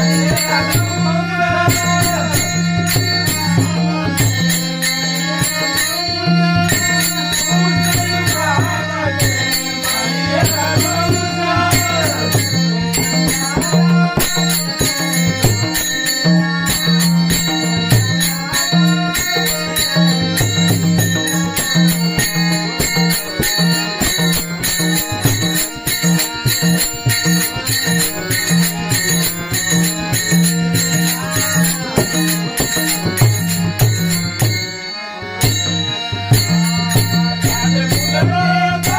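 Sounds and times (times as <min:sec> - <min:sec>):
devotional vocal melody: 0:00.0 - 0:38.9
hand cymbals struck in a beat: 0:00.0 - 0:38.9
percussion strokes: 0:00.0 - 0:38.9.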